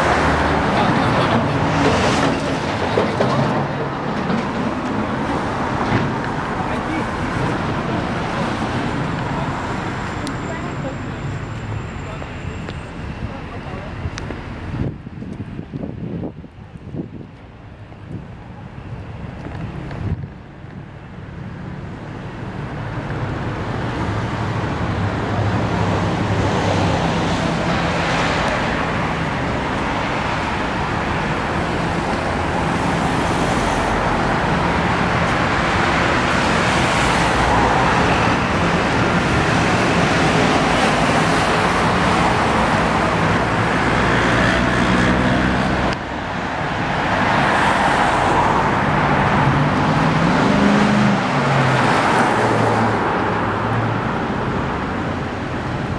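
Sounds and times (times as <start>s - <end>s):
cars passing: 0.0s - 55.9s.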